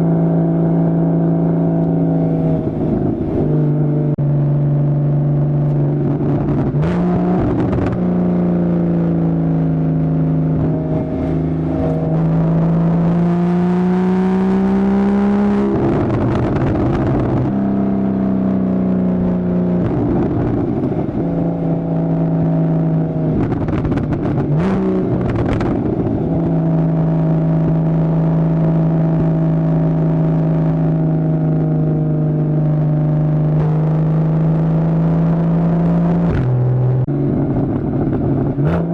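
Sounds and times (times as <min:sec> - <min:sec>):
car engine while driving: 0:00.0 - 0:38.9.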